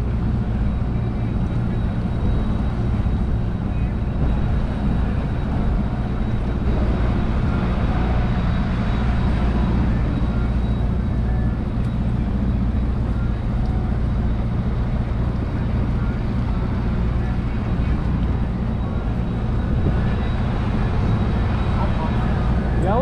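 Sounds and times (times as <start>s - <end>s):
outboard motor running: 0.0s - 23.0s
wind: 0.0s - 23.0s.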